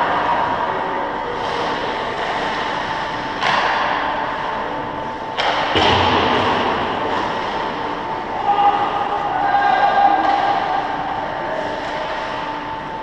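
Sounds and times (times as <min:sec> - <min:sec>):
steady arena hum: 0:00.0 - 0:13.0.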